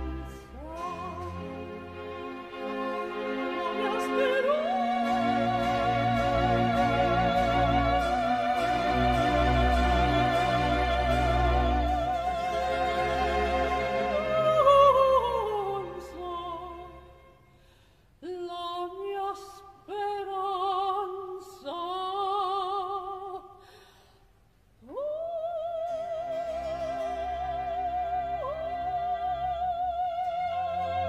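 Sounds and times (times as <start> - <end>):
soprano singing opera: 0.0 - 17.3, 18.2 - 23.6, 24.8 - 31.0
orchestral strings: 0.0 - 21.2, 24.9 - 31.0.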